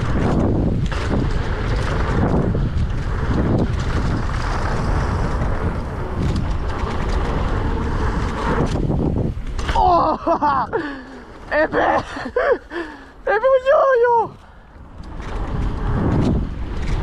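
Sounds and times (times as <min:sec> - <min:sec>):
mountain bike rattling on trail: 0:00.0 - 0:17.0
wind buffeting microphone: 0:00.0 - 0:17.0.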